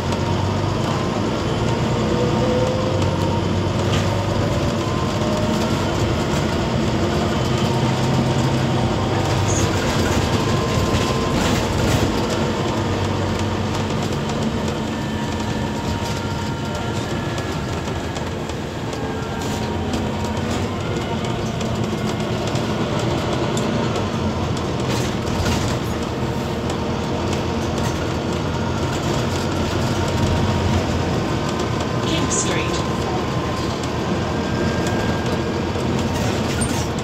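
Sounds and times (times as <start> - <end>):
bus engine hum: 0.0 - 37.0
road noise: 0.0 - 37.0.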